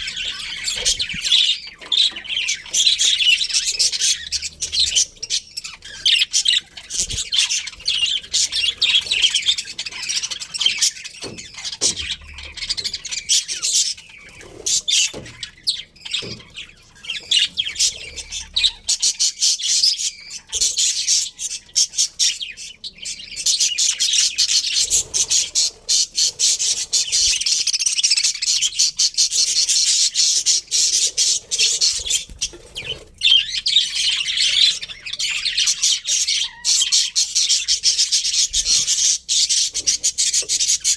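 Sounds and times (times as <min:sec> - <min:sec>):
budgerigars chattering and chirping: 0:00.0 - 0:40.9.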